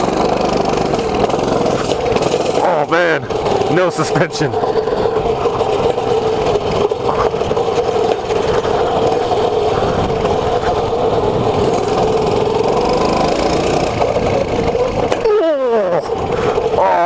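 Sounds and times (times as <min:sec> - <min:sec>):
mini bike engine running: 0:00.0 - 0:17.0.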